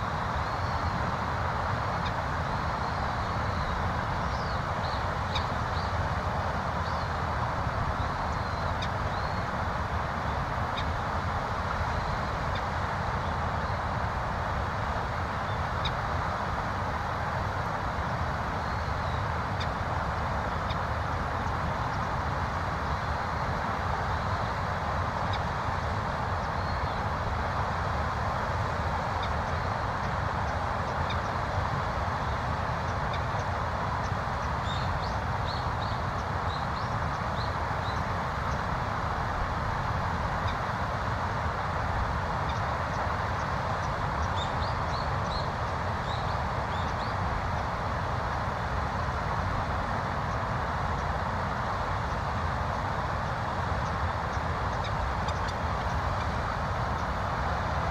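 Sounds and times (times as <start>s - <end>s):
river rushing: 0.0s - 57.9s.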